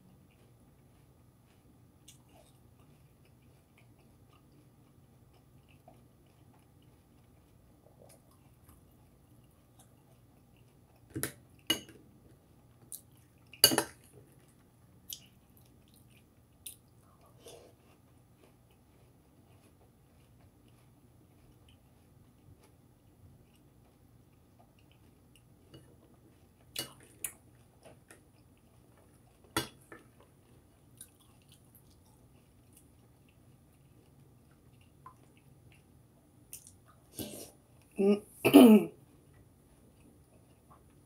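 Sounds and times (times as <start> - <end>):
chewing crunchy cereal: 0.1 - 38.0, 39.0 - 41.0.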